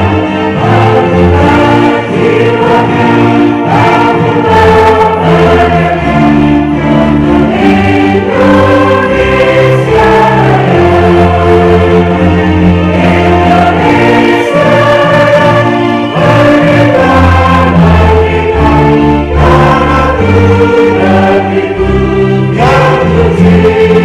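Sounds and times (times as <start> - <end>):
choir singing slow song: 0.0 - 24.0
instrumental accompaniment with bass: 0.0 - 24.0.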